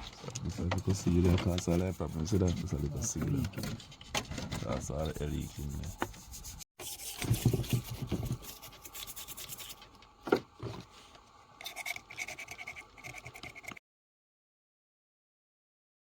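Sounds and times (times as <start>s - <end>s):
scratching and handling noises: 0.0s - 13.8s.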